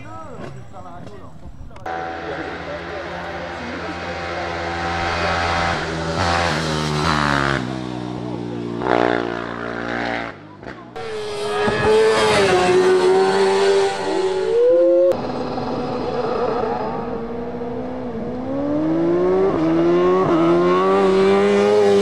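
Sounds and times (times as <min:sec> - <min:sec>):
racing motorcycle engine revving: 0:01.8 - 0:22.0.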